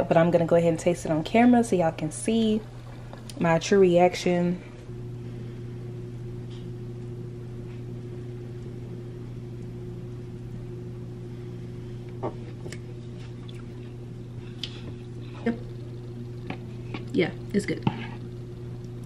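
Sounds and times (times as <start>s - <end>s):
kitchen appliance humming: 0.0s - 19.0s.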